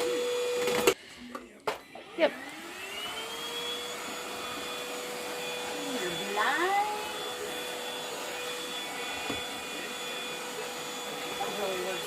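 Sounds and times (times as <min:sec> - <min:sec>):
vacuum cleaner motor whine: 0:00.0 - 0:01.0, 0:01.7 - 0:12.0.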